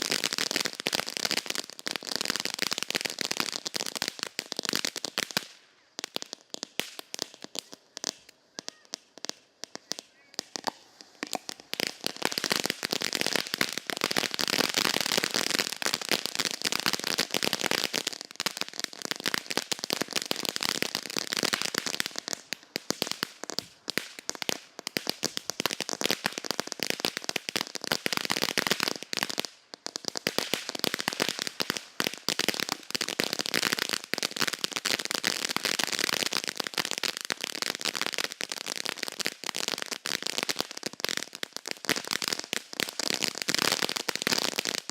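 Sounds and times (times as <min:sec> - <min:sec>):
firework fountain crackling: 0:00.0 - 0:44.9.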